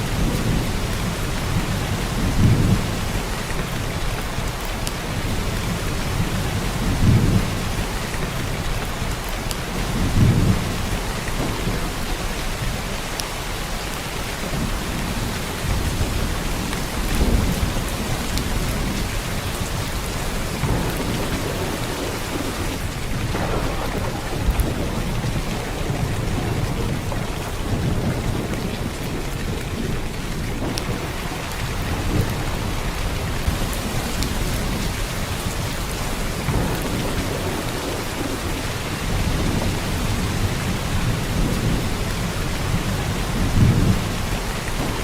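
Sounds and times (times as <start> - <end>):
heavy rain: 0.0 - 45.0
thunder rumbles: 0.0 - 45.0.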